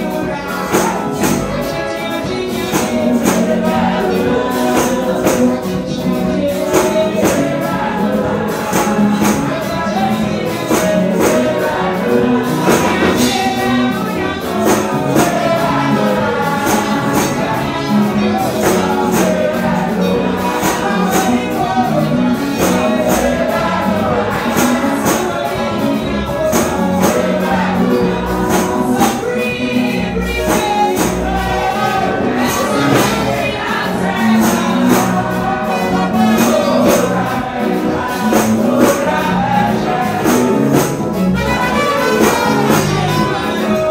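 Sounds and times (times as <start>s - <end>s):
backing singers: 0.0s - 43.9s
gospel worship music: 0.0s - 43.9s
lead singer: 0.0s - 43.9s.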